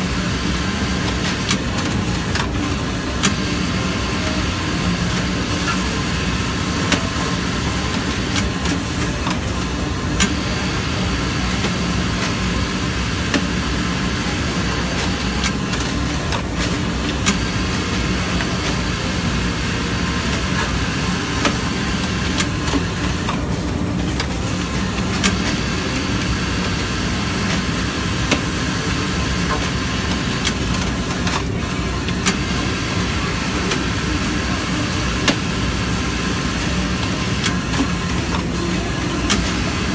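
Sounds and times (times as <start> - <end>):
sewing machine humming: 0.0 - 39.9.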